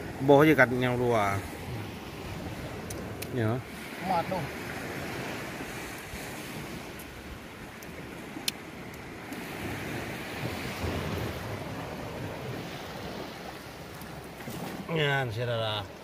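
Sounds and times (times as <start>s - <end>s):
wind on microphone: 0.0s - 14.9s
sea surf: 0.0s - 16.0s.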